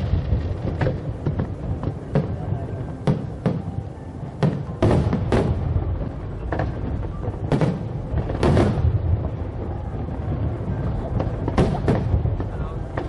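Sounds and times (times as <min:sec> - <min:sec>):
fireworks bursting with sharp bangs: 0:00.0 - 0:13.0
low rumble of explosions: 0:00.0 - 0:13.0.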